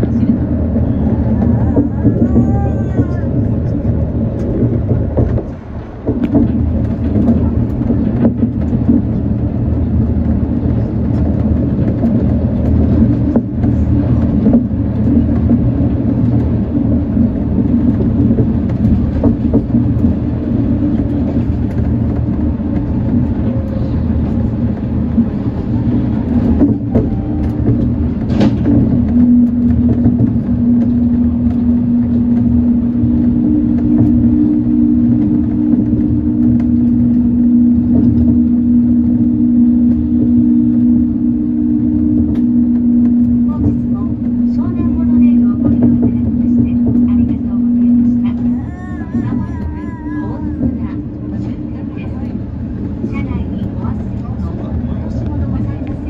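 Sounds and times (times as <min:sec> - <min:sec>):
monorail car rumbling: 0:00.0 - 0:56.0
steady hum: 0:00.0 - 0:56.0.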